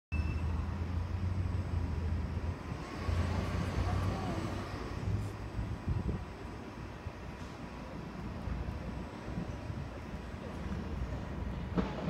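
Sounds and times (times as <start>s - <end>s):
distant train rumble: 0.1s - 12.0s
wind buffeting microphone: 1.1s - 12.0s.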